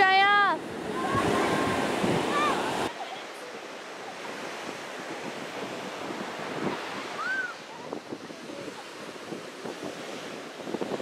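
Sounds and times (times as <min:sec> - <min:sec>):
ocean surf: 0:00.0 - 0:11.0
wind on microphone: 0:00.6 - 0:02.9, 0:04.0 - 0:11.0.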